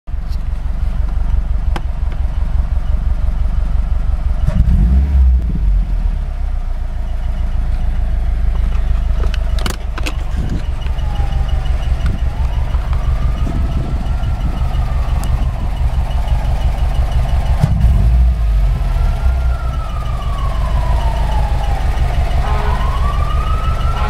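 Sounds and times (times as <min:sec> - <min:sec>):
engine squeal: 0:00.1 - 0:05.4, 0:06.0 - 0:24.0
car engine idling and revving: 0:00.1 - 0:24.0.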